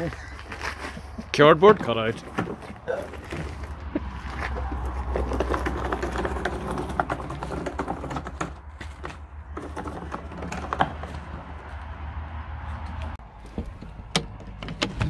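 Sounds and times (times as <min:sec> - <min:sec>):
casters rattling over gravel: 0:00.0 - 0:15.0.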